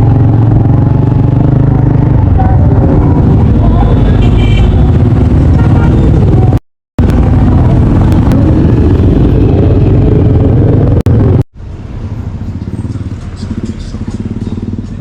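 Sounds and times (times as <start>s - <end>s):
low rumble of vehicle: 0.0s - 15.0s.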